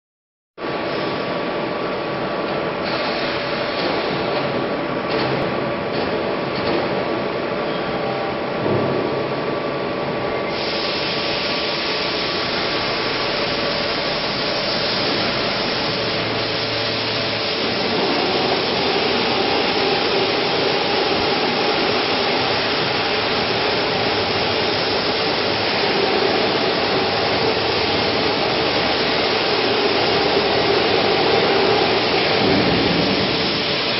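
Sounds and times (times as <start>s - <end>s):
pellet mill mechanical drone: 0.6s - 33.9s.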